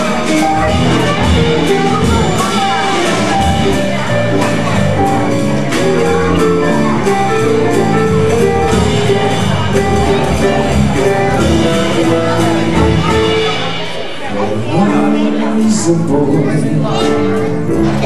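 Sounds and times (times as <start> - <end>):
jazz trio playing: 0.0 - 18.0
walking bass: 0.0 - 18.0.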